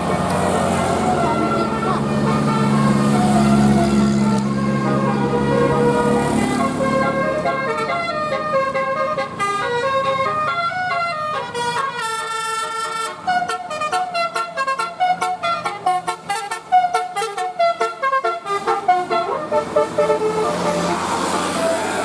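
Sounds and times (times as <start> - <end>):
musical air horn playing a tune: 0.0 - 22.0.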